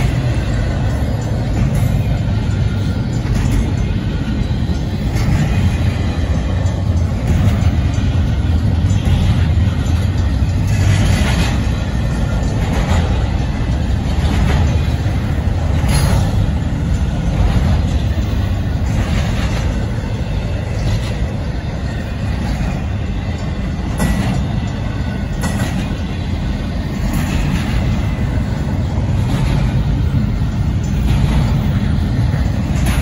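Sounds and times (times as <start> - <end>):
train wheels rumbling on rail: 0.0 - 33.0
wheels clacking over rail joints: 0.0 - 33.0.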